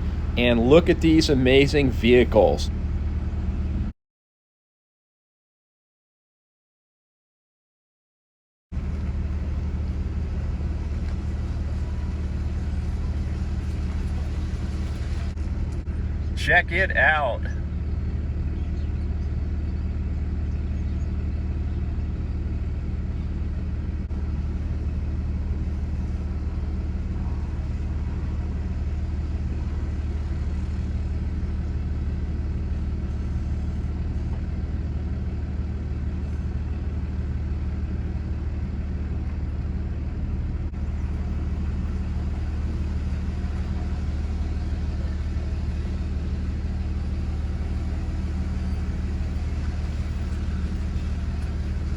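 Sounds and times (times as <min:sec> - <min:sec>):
vehicle engine droning: 0:00.0 - 0:03.9, 0:08.8 - 0:51.9.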